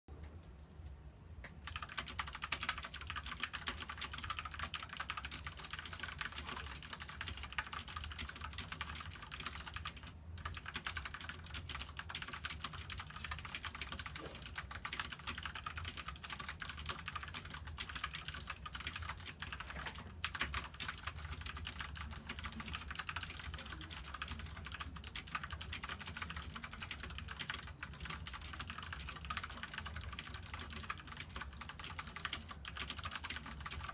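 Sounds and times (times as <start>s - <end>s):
fast mechanical keyboard typing: 1.6s - 33.9s.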